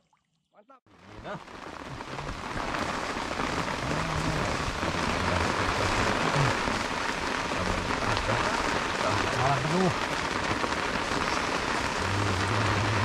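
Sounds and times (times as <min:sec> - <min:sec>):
rain on a tarp: 0:00.9 - 0:13.0.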